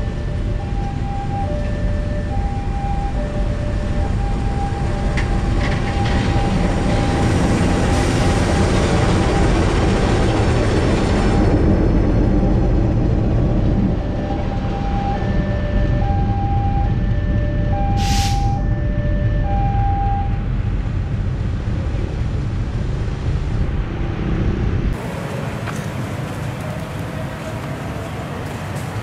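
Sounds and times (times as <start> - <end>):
locomotive engine: 0.0 - 29.0.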